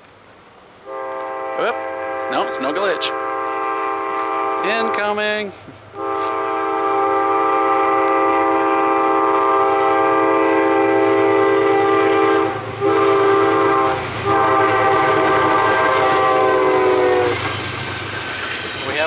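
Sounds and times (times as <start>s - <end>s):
train rumbling: 0.0s - 19.0s
locomotive horn blasts: 0.8s - 17.5s.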